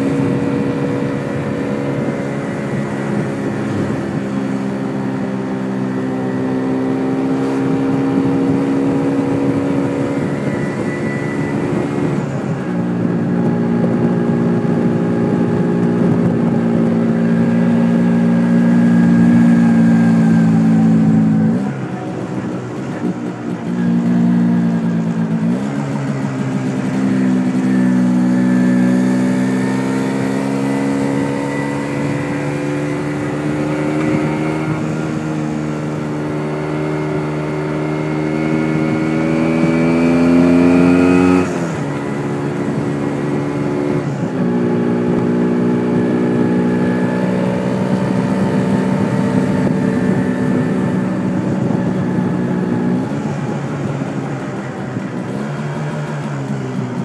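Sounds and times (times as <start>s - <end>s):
motorcycle engine revving: 0.0s - 57.0s
wind noise on microphone: 0.0s - 57.0s.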